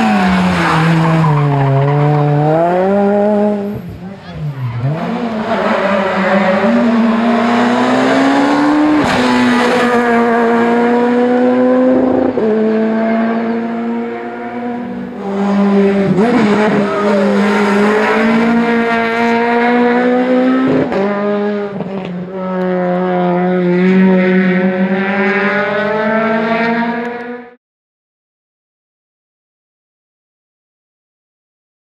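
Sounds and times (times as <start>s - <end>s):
rally car engines revving: 0.0s - 27.6s.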